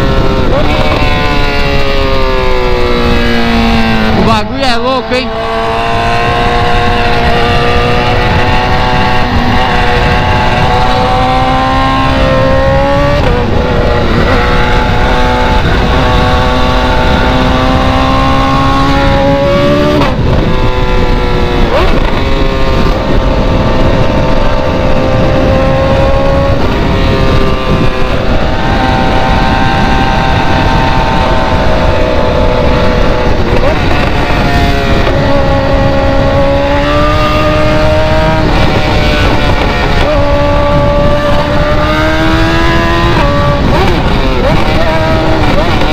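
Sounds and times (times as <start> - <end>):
car engine accelerating through gears: 0.0 - 45.9.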